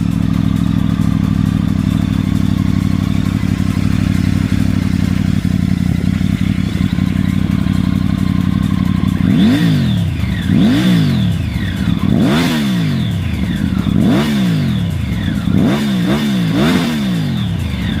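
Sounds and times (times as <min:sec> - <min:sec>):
motorcycle engine idling: 0:00.0 - 0:18.0
motorcycle engine revving: 0:00.0 - 0:18.0.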